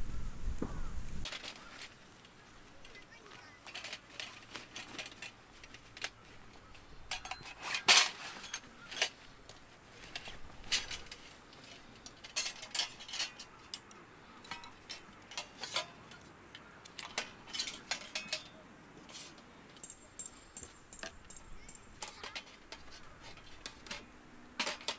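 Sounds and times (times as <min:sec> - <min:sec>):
camp cookware clinking: 0:01.2 - 0:24.9.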